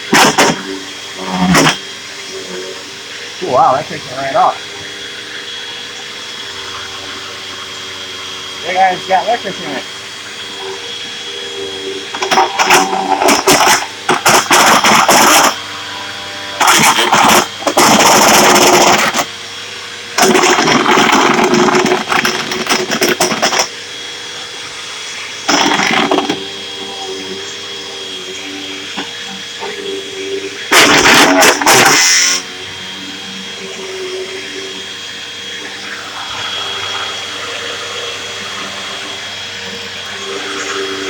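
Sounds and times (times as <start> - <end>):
upright vacuum cleaner running: 0.0 - 41.0.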